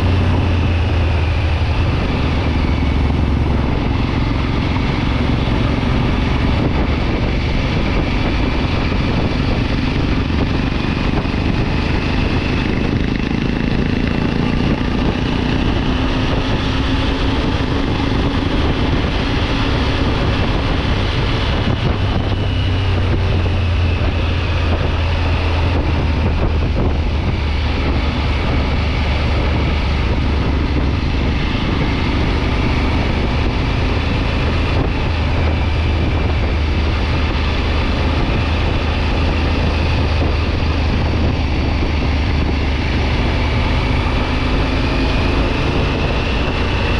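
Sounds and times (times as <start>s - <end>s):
motorcycle engine running: 0.0s - 46.9s
wind rushing over microphone: 0.0s - 46.9s.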